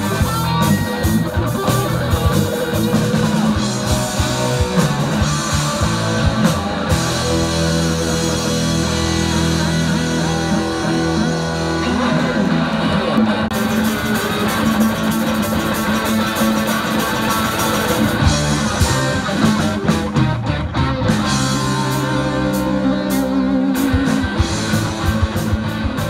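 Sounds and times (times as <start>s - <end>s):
instrumental rock band playing: 0.0s - 26.0s.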